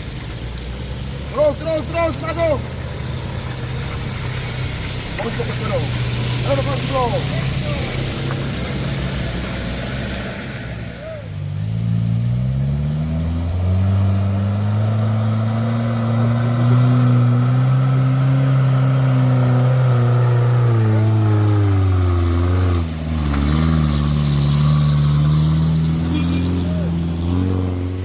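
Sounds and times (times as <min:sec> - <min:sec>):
diesel engine labouring uphill: 0:00.0 - 0:28.0.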